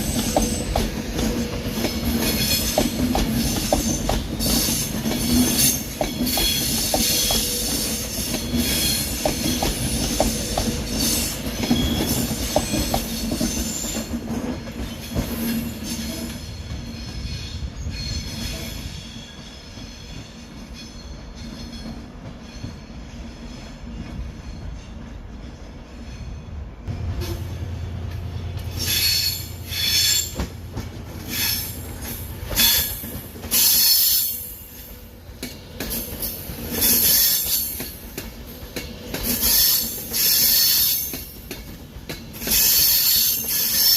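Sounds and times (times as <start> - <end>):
train wheels squealing and grinding: 0.0 - 43.9.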